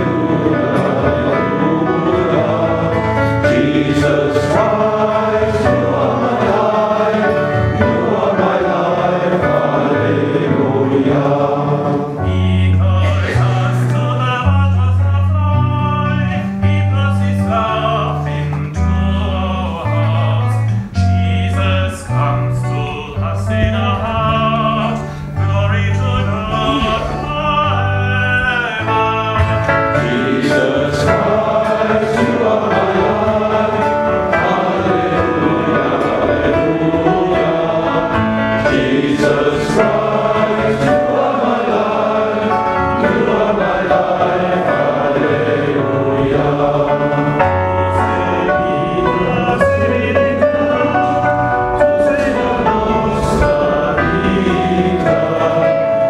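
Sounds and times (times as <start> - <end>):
acoustic guitar: 0.0 - 56.0
men singing a hymn: 0.0 - 56.0.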